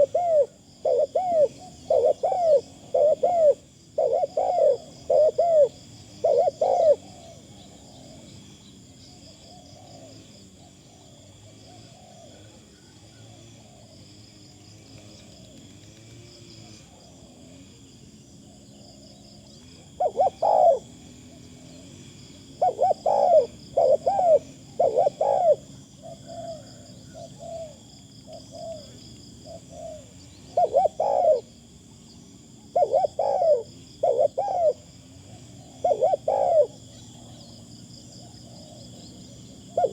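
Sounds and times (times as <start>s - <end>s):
dove cooing: 0.0s - 8.4s, 9.1s - 14.0s, 18.4s - 39.9s.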